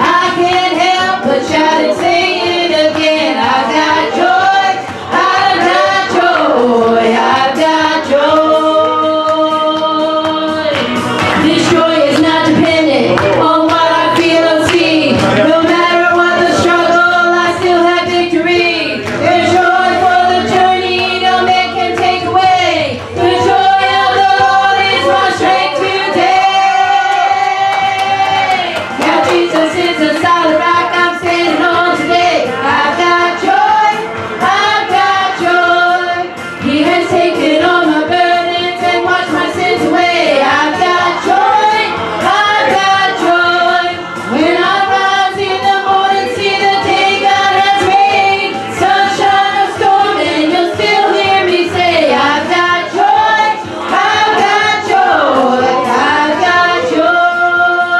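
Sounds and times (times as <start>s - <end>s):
congregation singing: 0.0s - 57.9s
instrumental accompaniment: 0.0s - 57.9s
woman singing lead: 0.0s - 57.9s.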